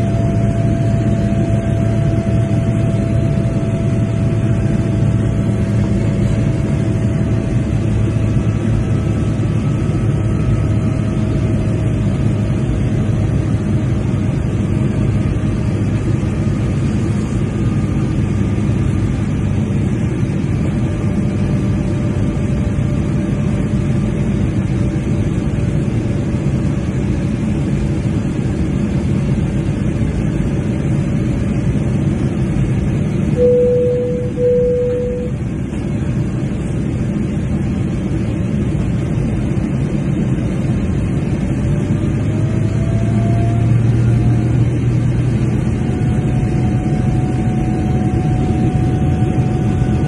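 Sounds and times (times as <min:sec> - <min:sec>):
engine whine tones: 0:00.0 - 0:50.0
jet engine roar in cabin: 0:00.0 - 0:50.0.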